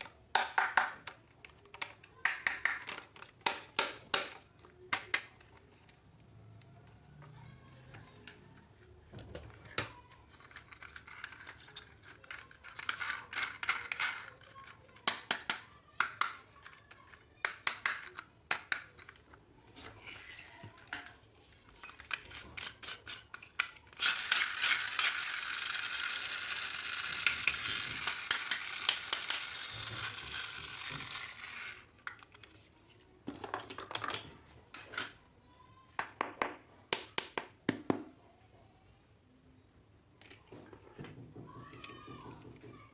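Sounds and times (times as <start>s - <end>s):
clicks and taps of toys: 0.0s - 6.0s, 9.1s - 19.4s, 20.6s - 35.2s, 35.9s - 38.2s, 40.2s - 42.9s.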